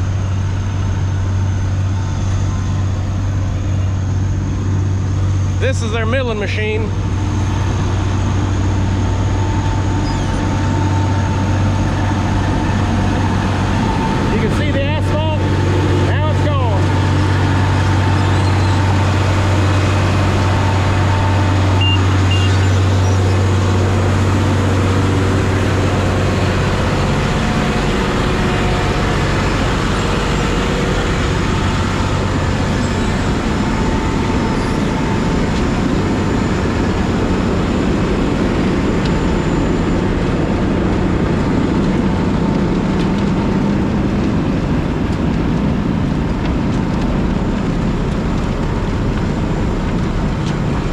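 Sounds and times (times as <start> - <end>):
heavy diesel machinery running: 0.0 - 50.9
low even hum: 0.0 - 50.9.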